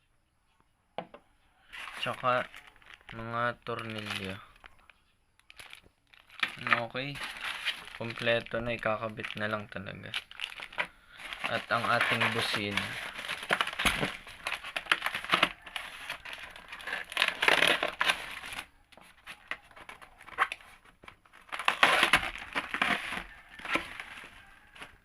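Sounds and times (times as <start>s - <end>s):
packaging crinkling and rustling: 1.7s - 25.0s.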